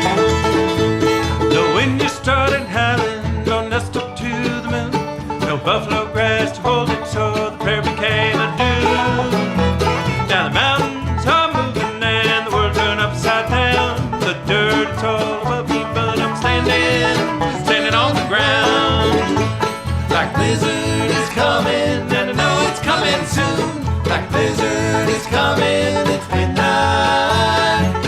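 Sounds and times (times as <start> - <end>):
banjo picking: 0.0 - 28.0
bluegrass band playing: 0.0 - 28.0.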